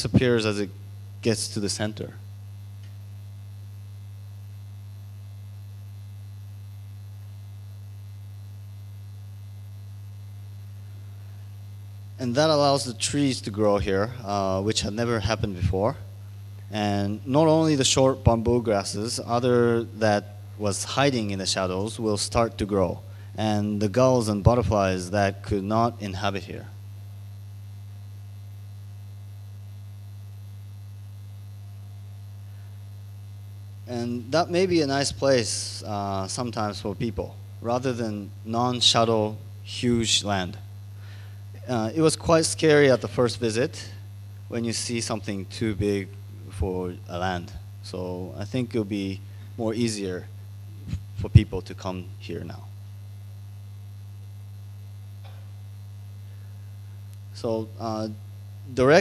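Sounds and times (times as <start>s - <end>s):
electrical mains hum: 0.0s - 59.0s
faint hiss: 0.0s - 59.0s.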